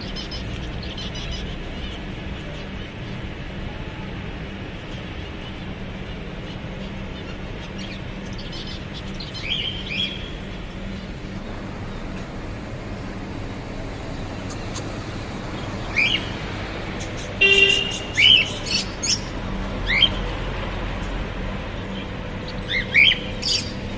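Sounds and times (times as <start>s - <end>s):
birds chirping: 0.0s - 3.6s, 4.3s - 23.9s
steady background noise: 0.0s - 23.9s.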